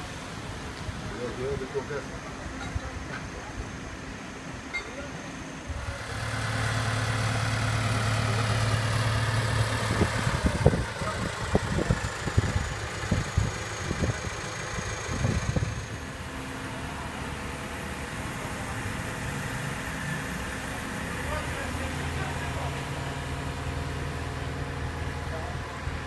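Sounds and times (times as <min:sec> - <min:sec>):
crane diesel engine running: 0:00.0 - 0:26.0.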